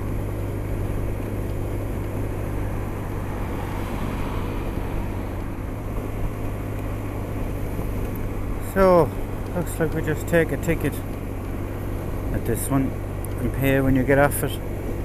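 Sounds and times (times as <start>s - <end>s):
scooter engine humming: 0.0s - 15.0s
wind and road noise: 0.0s - 15.0s.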